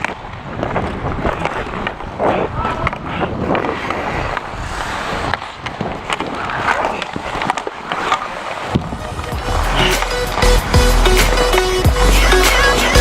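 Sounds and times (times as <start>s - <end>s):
hockey sticks clacking: 0.0s - 2.2s, 2.8s - 13.0s
inline skate wheels rolling: 0.0s - 13.0s.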